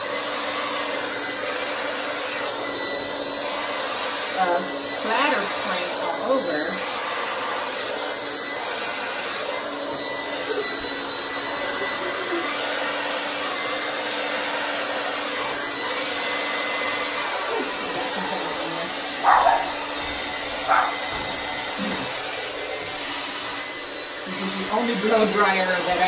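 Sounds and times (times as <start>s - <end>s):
hair dryer blowing air: 0.0s - 26.0s.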